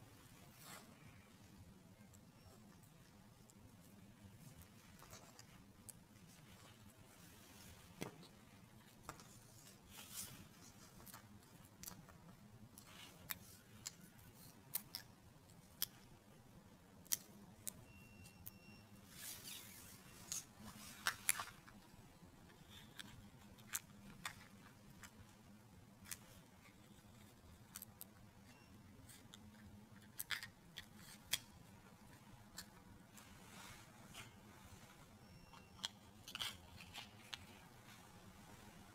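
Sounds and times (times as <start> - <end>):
faint room noise: 0.0 - 38.9.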